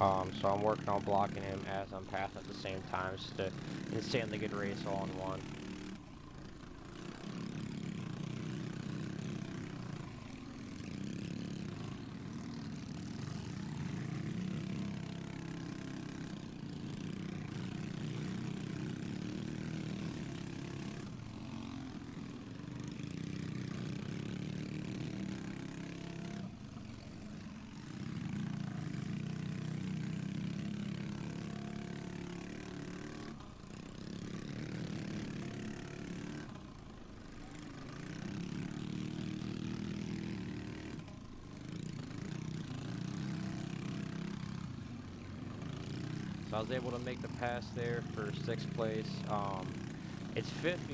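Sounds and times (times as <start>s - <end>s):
minibike engine revving: 0.0s - 50.9s.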